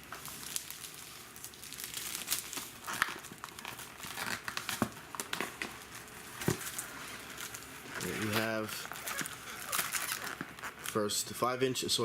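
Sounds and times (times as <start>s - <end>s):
packaging crinkling: 0.0s - 11.2s.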